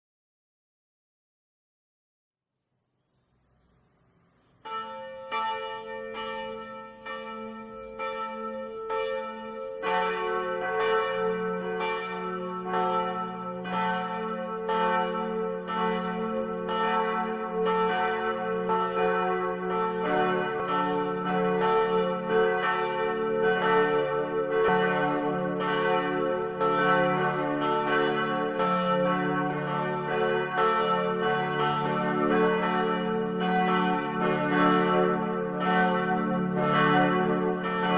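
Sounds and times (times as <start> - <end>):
church bells ringing: 4.2 - 37.9.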